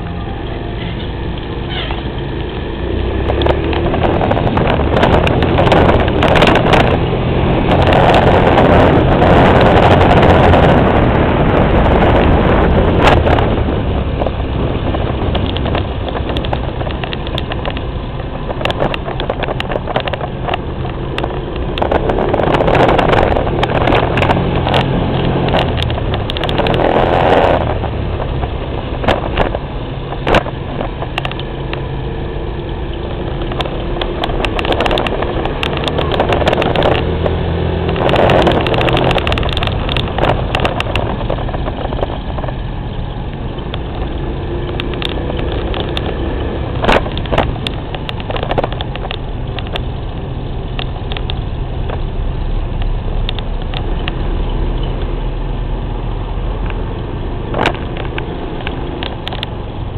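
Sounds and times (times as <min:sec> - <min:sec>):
slowly moving vehicle: 0:00.0 - 0:59.9
wind rumbling on microphone: 0:00.0 - 0:59.9
knocks and clicks: 0:01.3 - 0:31.9, 0:32.7 - 0:52.1, 0:57.5 - 0:59.9.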